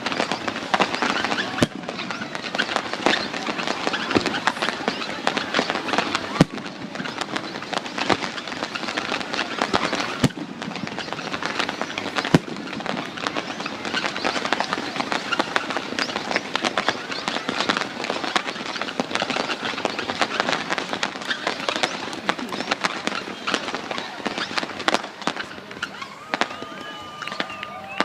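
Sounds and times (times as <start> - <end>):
fireworks crackling: 0.0 - 28.0
sharp firework bangs: 0.0 - 28.0.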